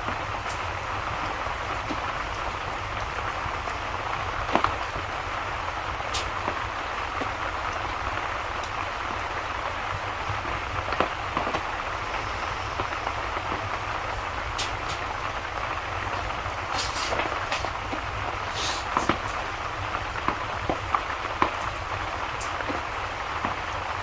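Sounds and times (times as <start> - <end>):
fire crackling: 0.0 - 24.0
steady rain: 0.0 - 24.0.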